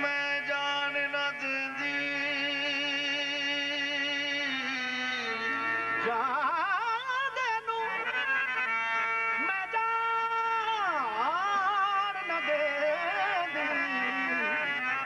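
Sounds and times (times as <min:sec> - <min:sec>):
harmonium drone: 0:00.0 - 0:15.0
man singing with vibrato: 0:00.0 - 0:15.0.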